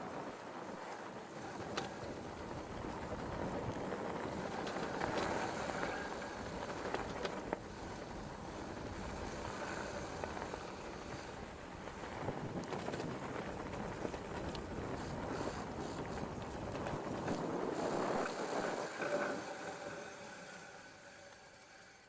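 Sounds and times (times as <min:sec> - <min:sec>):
wind rush on microphone: 0:00.0 - 0:20.1
bike clicks and rattles: 0:00.0 - 0:22.0.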